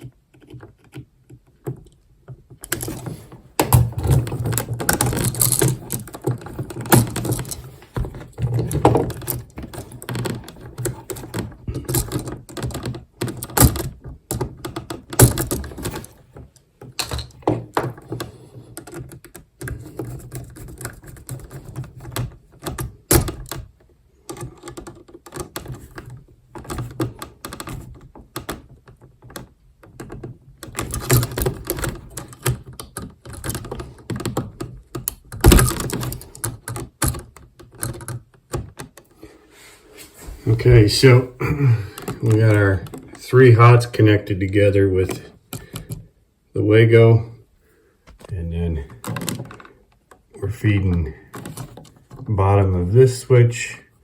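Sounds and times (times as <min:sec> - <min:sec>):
clicks and taps of wiring work: 0:00.0 - 0:39.3, 0:45.1 - 0:46.2, 0:48.0 - 0:52.4.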